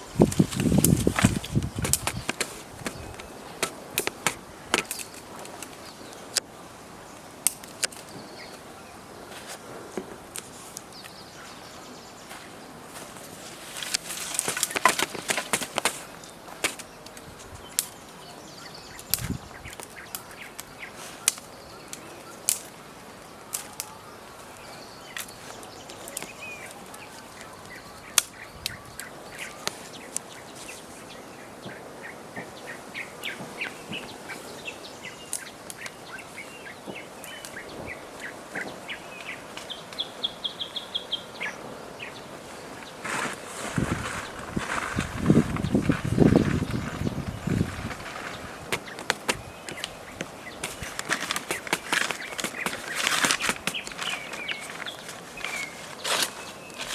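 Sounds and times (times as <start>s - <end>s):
small birds chirping: 0.0s - 56.9s
steady outdoor hiss: 0.0s - 56.9s.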